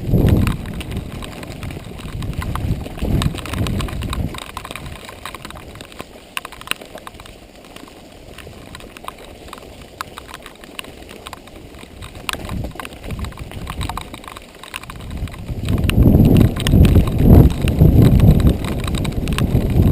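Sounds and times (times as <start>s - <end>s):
bike rattling on stones: 0.0s - 19.9s.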